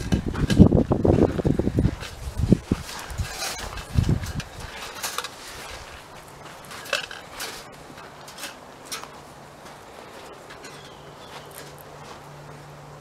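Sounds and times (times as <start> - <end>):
wire cages rattling and clinking: 0.0 - 12.2.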